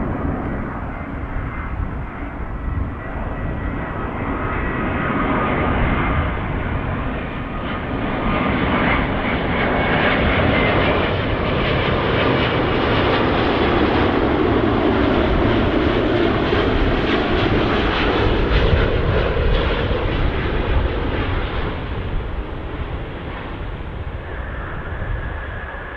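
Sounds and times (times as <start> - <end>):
jet airliner rumble: 0.0 - 25.9.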